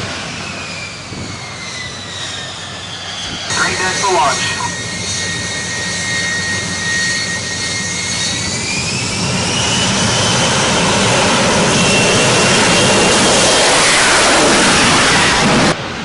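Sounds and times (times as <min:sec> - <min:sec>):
jet engine turbine whine: 0:00.0 - 0:16.0.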